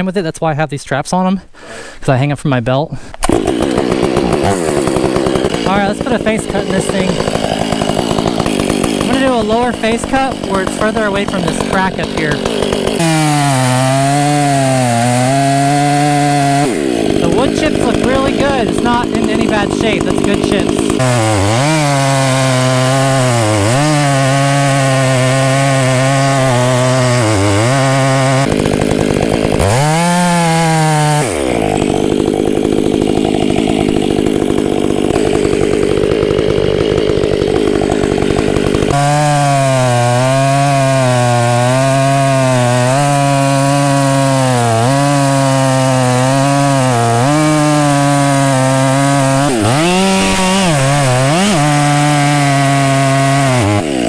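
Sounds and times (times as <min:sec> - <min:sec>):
chainsaw cutting into tree trunk: 0:03.0 - 0:54.0.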